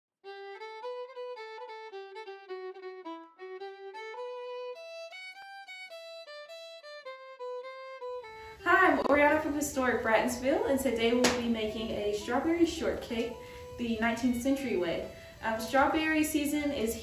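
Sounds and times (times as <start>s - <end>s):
solo fiddle melody: 0.2s - 17.0s.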